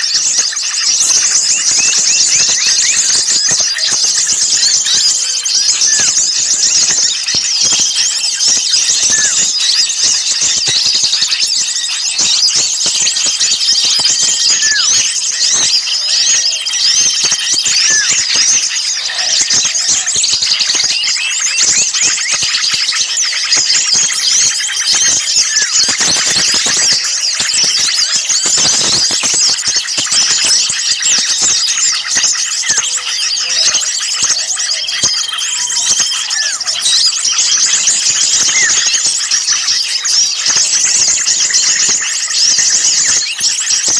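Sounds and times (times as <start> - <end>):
small songbirds chattering: 0.0 - 43.9.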